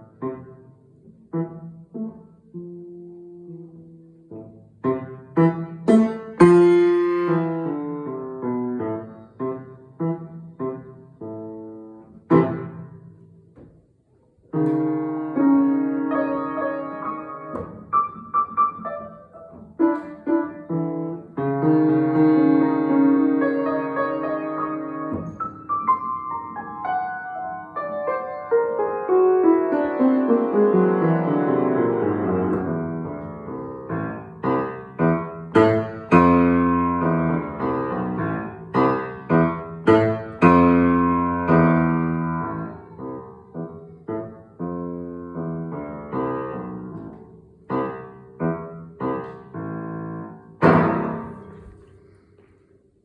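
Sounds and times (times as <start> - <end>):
piano piece: 0.0 - 53.0.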